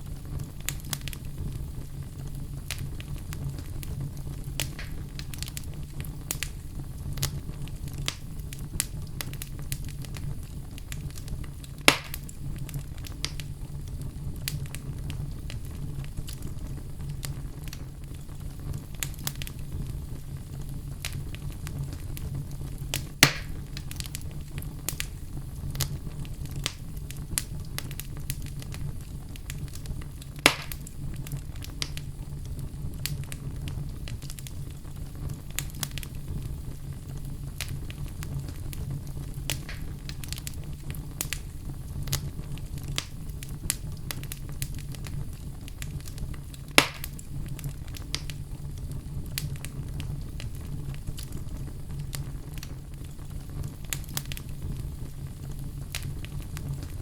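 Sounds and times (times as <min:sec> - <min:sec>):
fire popping: 0:00.0 - 0:57.0
wood fire crackling: 0:00.0 - 0:57.0.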